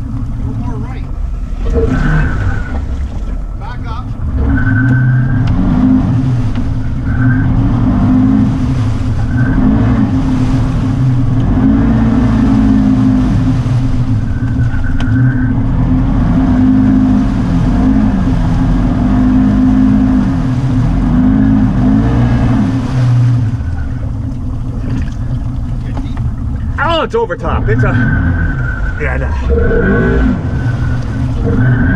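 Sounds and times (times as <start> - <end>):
atv engine revving: 0.0 - 3.2, 4.2 - 31.9.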